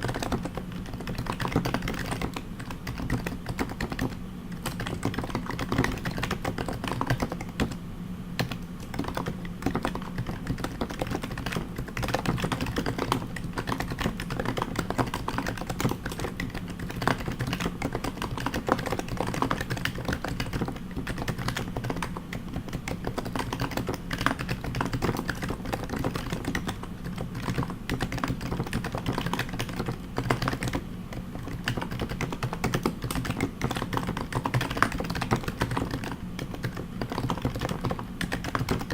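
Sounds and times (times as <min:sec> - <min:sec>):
fast typing on keyboard: 0:00.0 - 0:07.8, 0:08.4 - 0:38.9.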